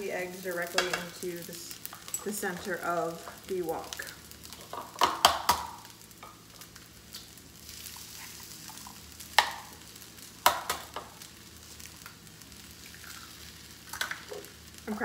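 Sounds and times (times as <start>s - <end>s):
fried rice sizzling in a wok: 0.0s - 15.0s.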